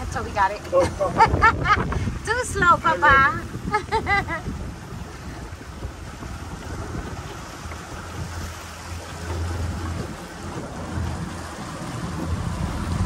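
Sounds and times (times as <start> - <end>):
motorboat engine drone: 0.0 - 13.0
water rushing past hull: 0.0 - 13.0
wind buffeting microphone: 0.0 - 13.0.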